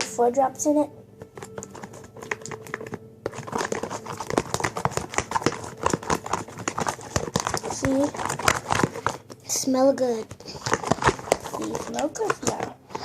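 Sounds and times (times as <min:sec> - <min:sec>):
spoon stirring sticky slime: 0:00.6 - 0:13.0.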